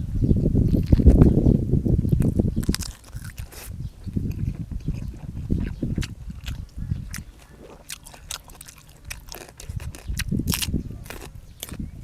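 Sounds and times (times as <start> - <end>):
sharp crunches and clicks: 0.7 - 1.3, 2.1 - 11.8
person chewing food: 2.1 - 11.8.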